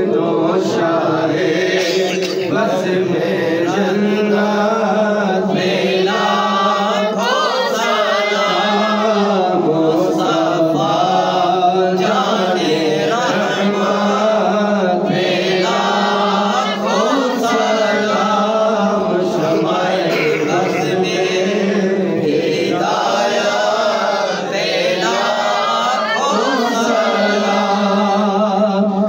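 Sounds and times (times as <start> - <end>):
voices chanting a devotional hymn: 0.0 - 29.0.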